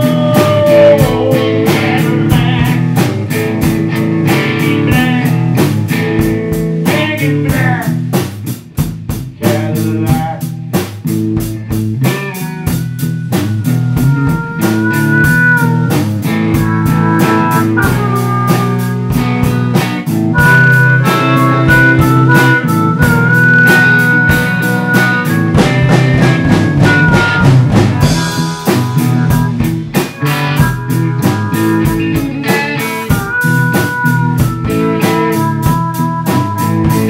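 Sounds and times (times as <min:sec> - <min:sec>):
drum kit beat: 0:00.0 - 0:37.0
electric guitar: 0:00.0 - 0:37.0
harmonica lead notes: 0:00.0 - 0:37.0.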